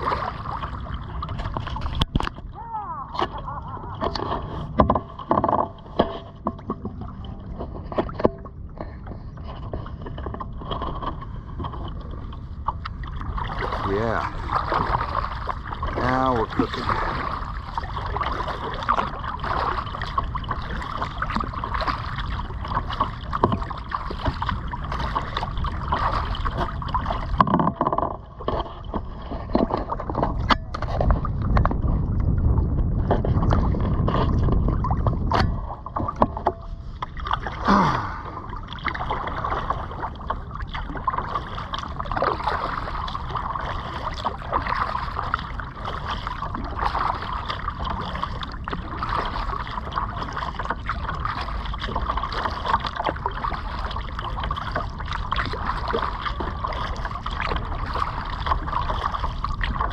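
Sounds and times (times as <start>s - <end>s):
kayak paddle splashing in water: 0.0s - 59.9s.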